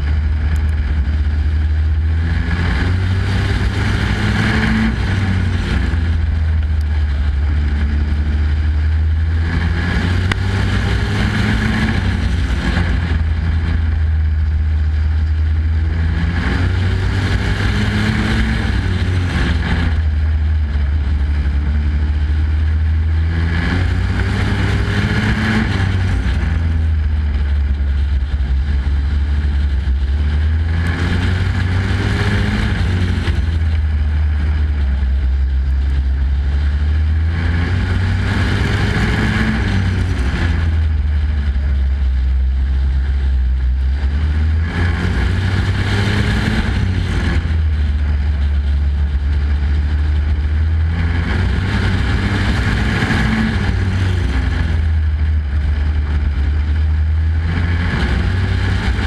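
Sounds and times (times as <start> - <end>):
race truck engine: 0.0 - 59.0.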